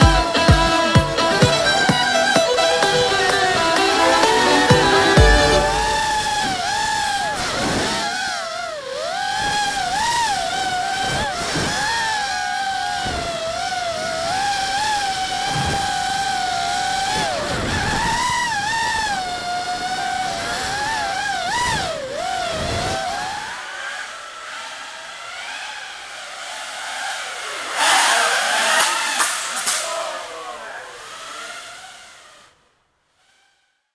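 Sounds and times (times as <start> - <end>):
drone motors and propellers whining: 0.8 - 32.6.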